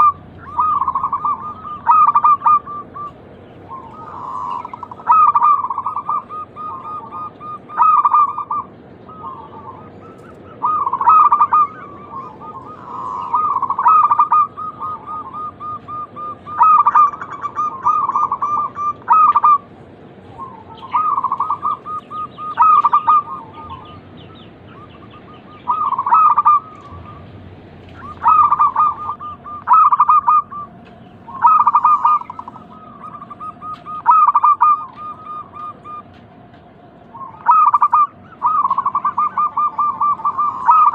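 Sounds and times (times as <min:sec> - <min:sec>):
doves cooing: 0:00.0 - 0:40.9
lower-pitched bird calling: 0:00.0 - 0:40.9.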